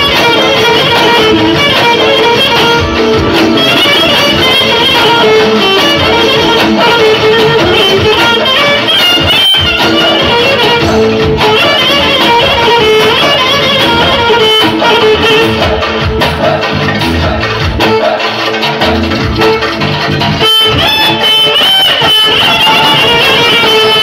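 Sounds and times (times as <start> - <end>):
electric violin melody: 0.0 - 16.6, 17.2 - 24.0
keyboard: 0.0 - 24.0
percussion: 0.0 - 24.0.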